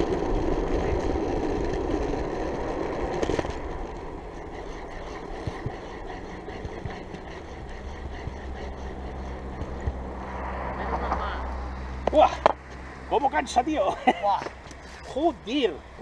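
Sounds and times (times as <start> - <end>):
wheels rolling on asphalt: 0.0 - 16.0.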